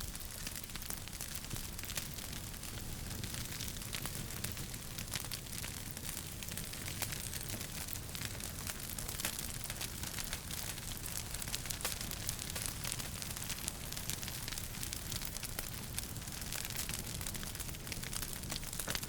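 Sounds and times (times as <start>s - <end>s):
fire hiss and low rumble: 0.0s - 19.0s
wood fire crackling: 0.0s - 19.0s.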